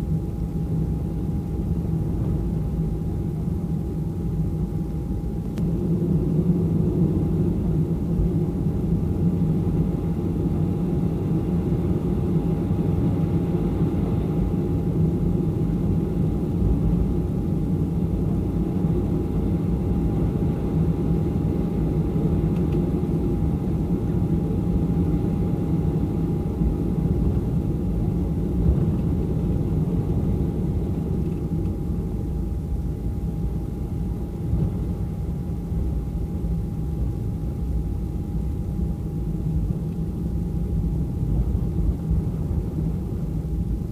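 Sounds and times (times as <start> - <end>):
jet engine rumble: 0.0 - 43.9
thin steady whine: 0.0 - 43.9.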